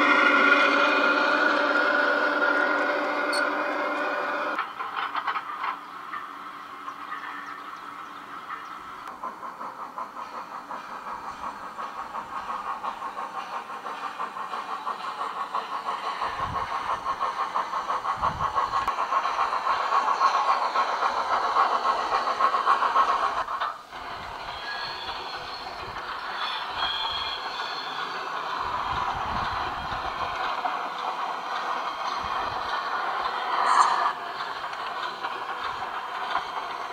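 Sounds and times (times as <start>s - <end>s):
model train running on track: 0.0s - 36.9s.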